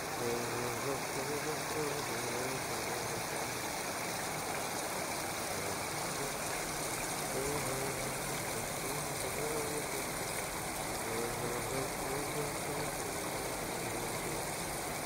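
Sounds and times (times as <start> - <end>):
faint voices murmuring: 0.0 - 3.8, 4.9 - 15.0.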